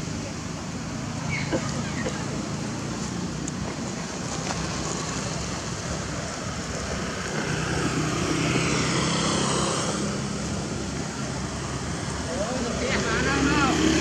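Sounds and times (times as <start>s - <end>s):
outdoor noise: 0.0s - 14.0s
passing vehicle engine hum: 0.0s - 14.0s.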